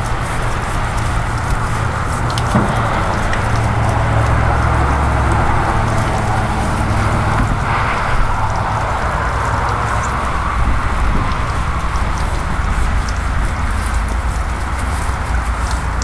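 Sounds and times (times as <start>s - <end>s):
brush scrubbing window glass: 0.0s - 16.0s
steady low hum: 0.0s - 16.0s
water spraying and splashing: 0.0s - 16.0s.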